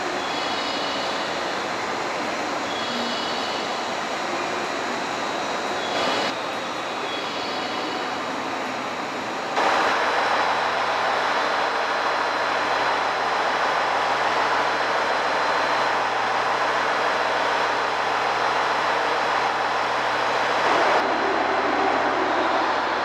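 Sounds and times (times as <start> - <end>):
thin high whine: 0.0 - 23.0
train engine and fans whirring: 0.0 - 23.0.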